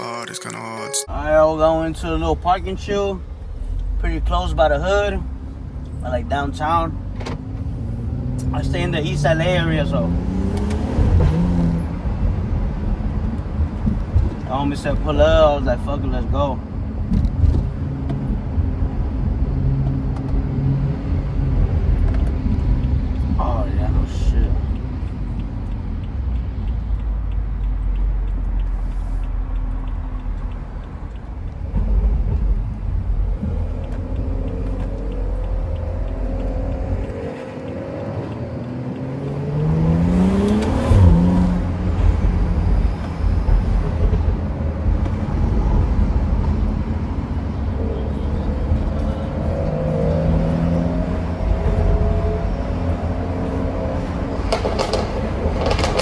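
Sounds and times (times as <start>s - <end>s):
low road rumble: 1.0s - 56.0s
car engine accelerating: 1.1s - 56.0s.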